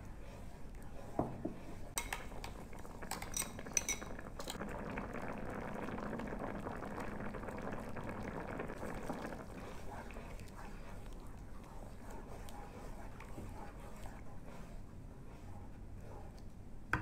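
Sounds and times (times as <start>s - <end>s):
soup bubbling at a boil: 0.0s - 16.5s.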